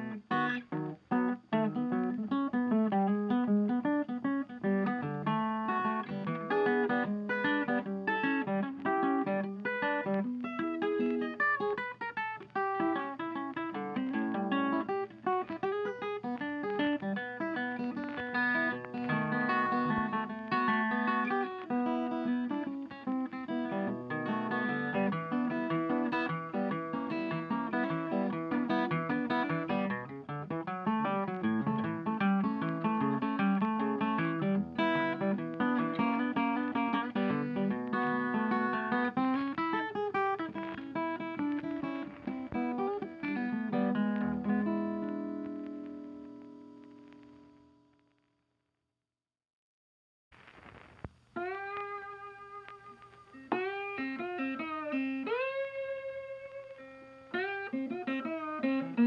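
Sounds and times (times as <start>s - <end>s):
acoustic guitar music: 0.0s - 48.1s, 50.7s - 59.0s.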